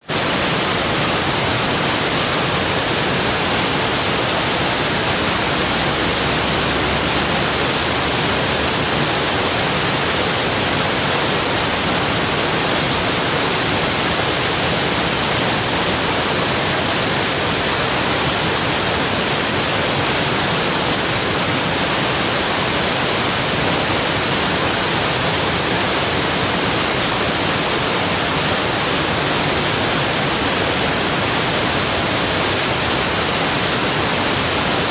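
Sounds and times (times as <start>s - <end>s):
waterfall rushing water: 0.0s - 34.9s.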